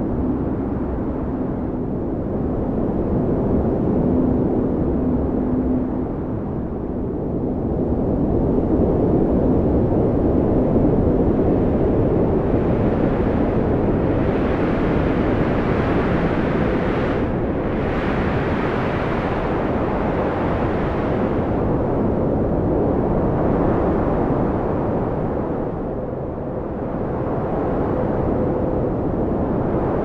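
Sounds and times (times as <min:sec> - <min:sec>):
strong wind roaring: 0:00.0 - 0:30.0.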